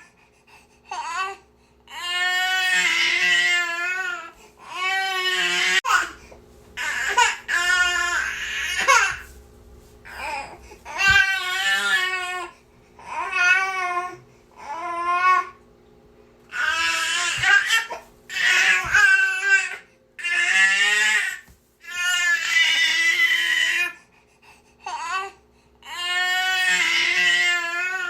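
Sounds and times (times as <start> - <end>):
infant crying: 0.9 - 6.2, 6.8 - 9.3, 10.1 - 15.6, 16.5 - 24.0, 24.8 - 28.0.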